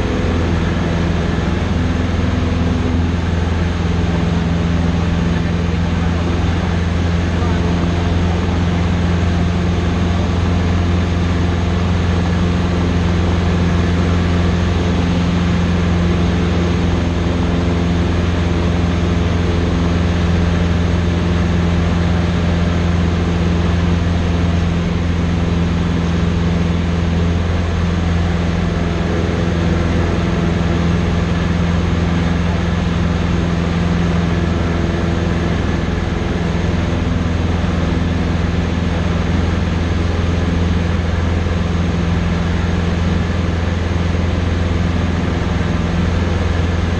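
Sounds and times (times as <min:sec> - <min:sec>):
airplane engine and propeller hum: 0:00.0 - 0:46.9.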